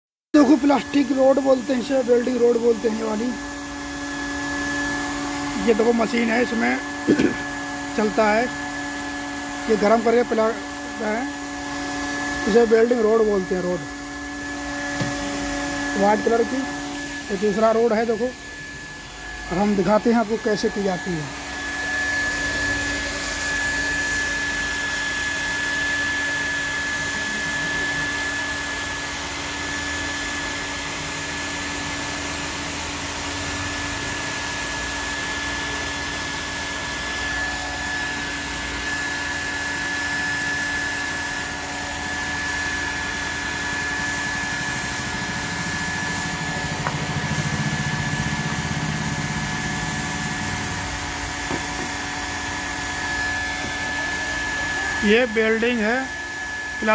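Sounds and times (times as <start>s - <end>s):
high whine of welding gun: 0.4s - 56.9s.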